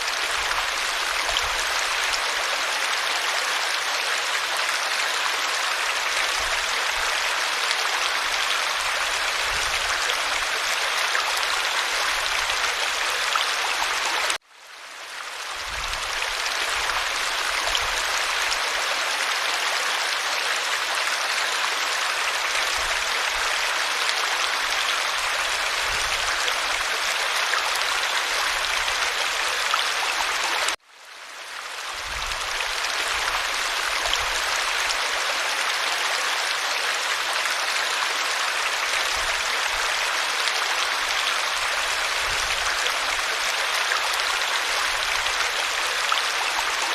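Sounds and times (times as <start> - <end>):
creek water flowing over stones: 0.0 - 46.9.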